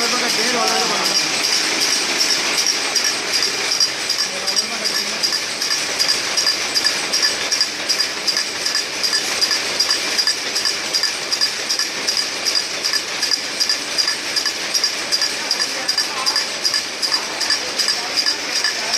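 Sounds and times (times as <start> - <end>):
machine clicking rhythmically: 0.0 - 18.9.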